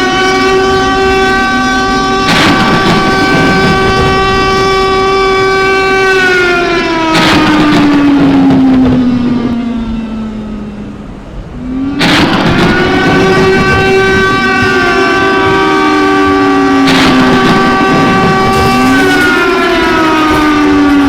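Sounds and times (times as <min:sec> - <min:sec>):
siren wailing: 0:00.0 - 0:21.0.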